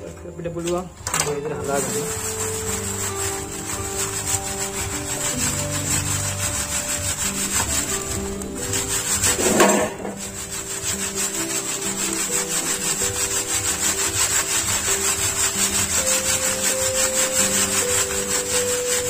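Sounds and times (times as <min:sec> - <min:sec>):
background music held notes: 0:00.0 - 0:19.0
gritty scraping of soil: 0:00.0 - 0:19.0.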